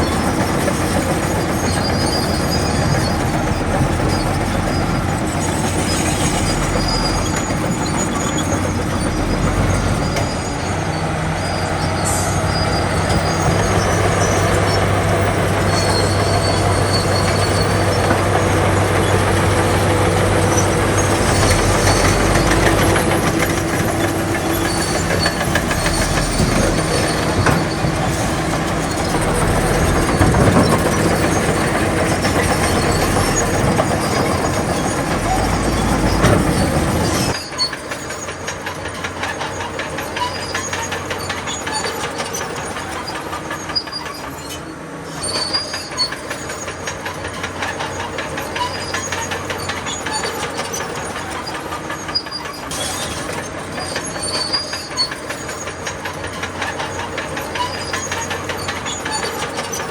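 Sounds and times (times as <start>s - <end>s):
bulldozer diesel engine running: 0.0s - 59.9s
steel tracks clattering: 0.0s - 59.9s.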